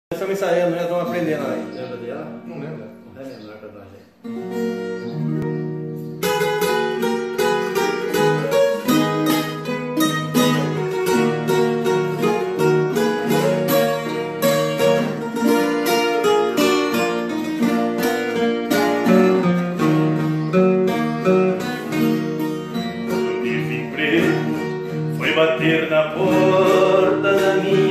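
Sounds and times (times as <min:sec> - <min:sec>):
acoustic guitars playing: 0:00.1 - 0:27.9.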